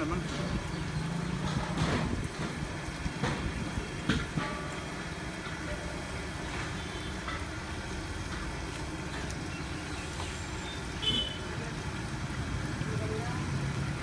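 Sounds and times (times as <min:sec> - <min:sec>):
street ambience rumble: 0:00.0 - 0:14.0.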